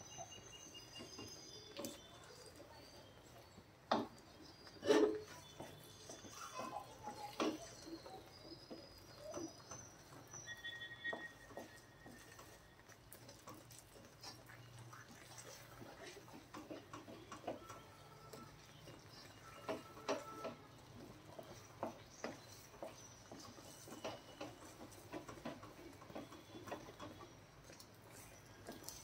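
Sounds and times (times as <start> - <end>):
thick food squelching: 0.0 - 29.0.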